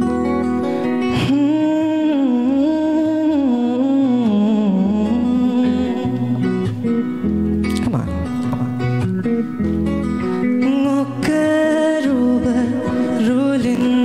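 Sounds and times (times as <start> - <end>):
strummed acoustic guitar: 0.0 - 14.0
man singing into a microphone: 1.0 - 8.8, 10.4 - 14.0.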